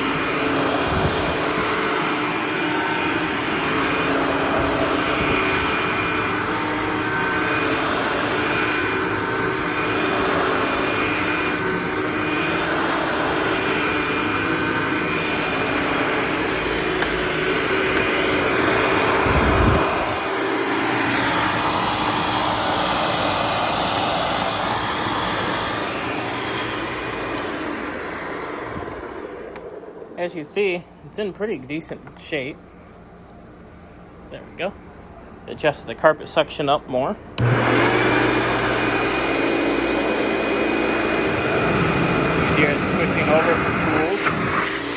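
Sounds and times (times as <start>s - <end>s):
vacuum cleaner running: 0.0s - 32.9s, 37.4s - 44.9s.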